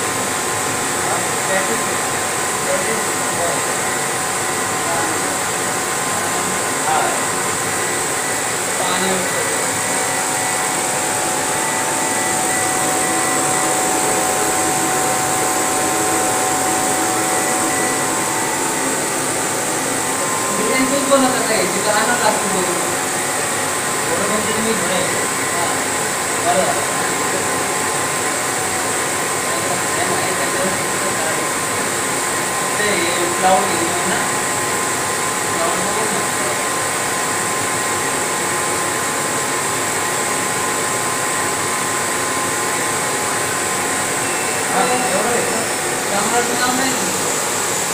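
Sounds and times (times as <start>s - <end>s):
laser machine fan rush: 0.0s - 47.9s
thin steady whining tones: 0.0s - 47.9s.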